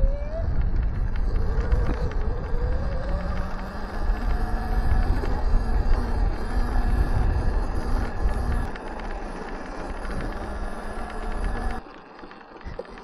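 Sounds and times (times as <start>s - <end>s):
wind on microphone: 0.0s - 11.8s
electric motor whine: 0.0s - 13.0s.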